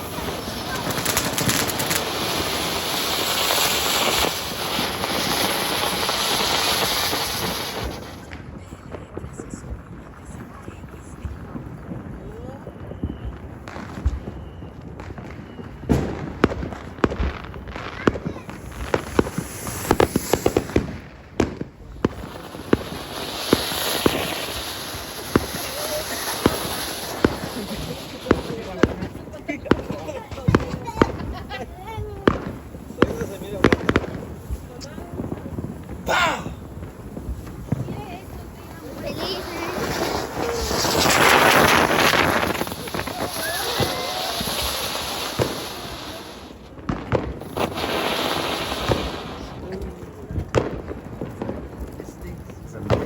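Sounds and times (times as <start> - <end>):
sharp firework cracks: 0.0 - 8.6, 12.3 - 53.0
fireworks crackling hiss: 0.0 - 53.0.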